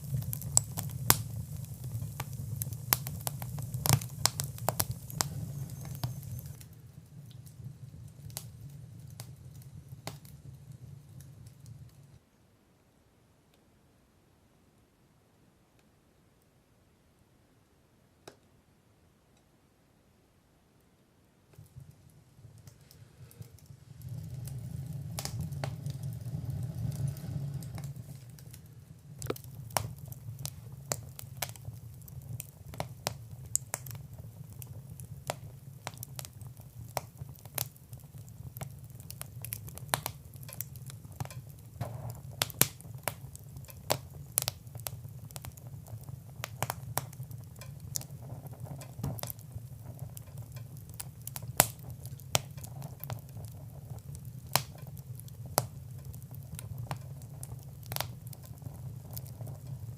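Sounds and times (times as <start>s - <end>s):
low rumble of flame: 0.0s - 12.3s, 21.5s - 59.9s
wood fire crackling: 0.0s - 12.3s, 21.5s - 59.9s.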